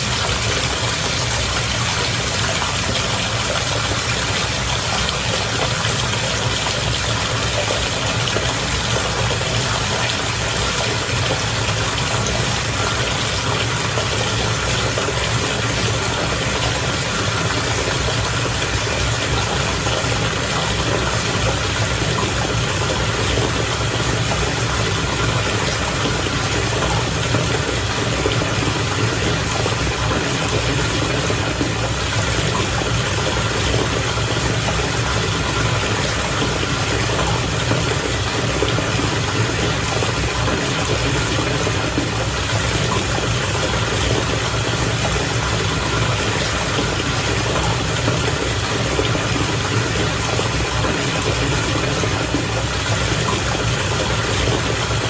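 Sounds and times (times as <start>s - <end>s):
bath water bubbling: 0.0s - 55.0s.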